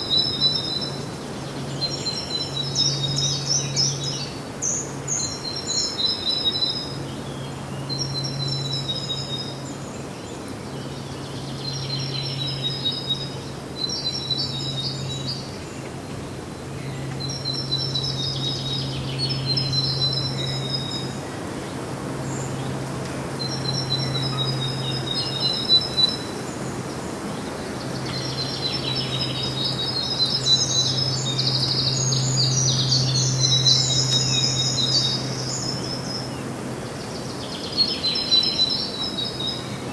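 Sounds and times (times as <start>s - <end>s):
songbird trilling: 0.0s - 9.6s, 16.8s - 39.9s.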